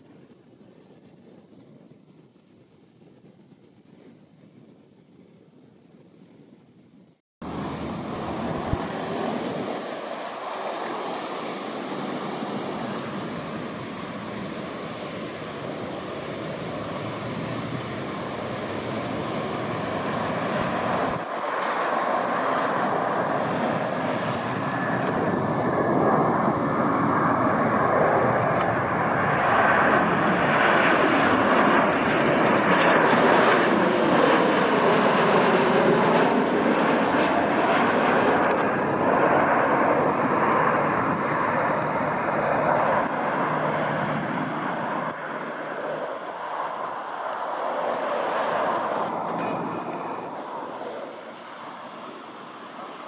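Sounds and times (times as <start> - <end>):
jet engines rushing: 7.4 - 53.0.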